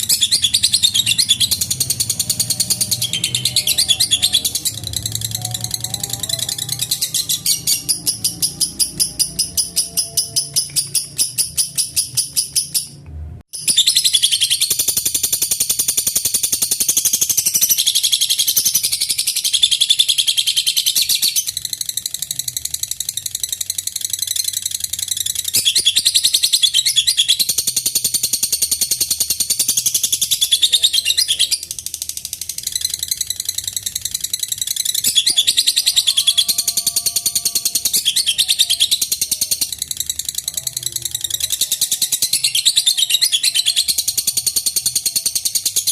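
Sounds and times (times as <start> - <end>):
lovebird chattering trill: 0.0 - 13.0, 13.6 - 45.9.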